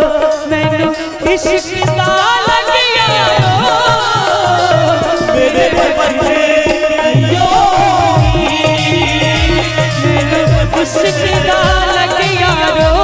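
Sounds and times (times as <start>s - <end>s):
keyboard accompaniment: 0.0s - 13.0s
low hand-drum beats: 0.0s - 13.0s
woman singing into microphone: 0.0s - 13.0s.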